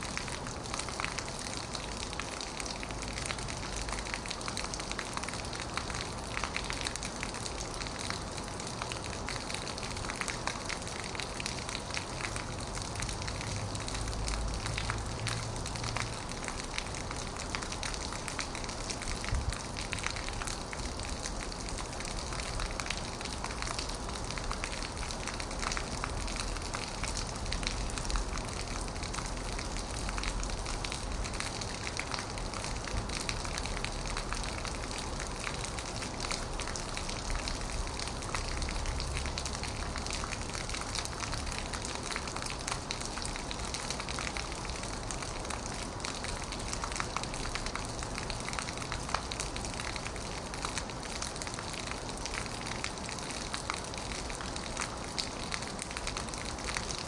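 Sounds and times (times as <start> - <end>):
heavy rain on metal roof: 0.0 - 57.0.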